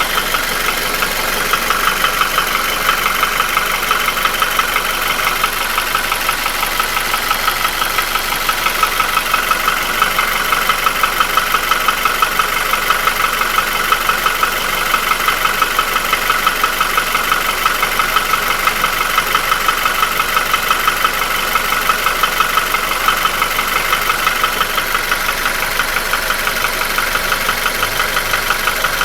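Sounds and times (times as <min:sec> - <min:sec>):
engine idling with knock: 0:00.0 - 0:29.0.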